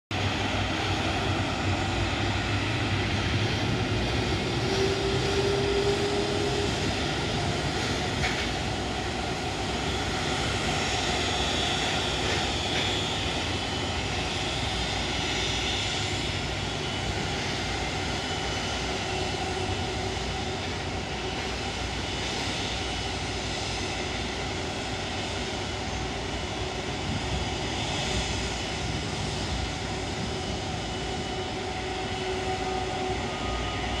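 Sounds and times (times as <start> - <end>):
jet engines running: 0.1 - 34.0.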